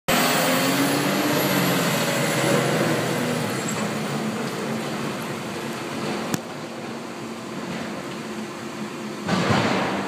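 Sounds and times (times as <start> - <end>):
garbage truck diesel engine: 0.1 - 10.0.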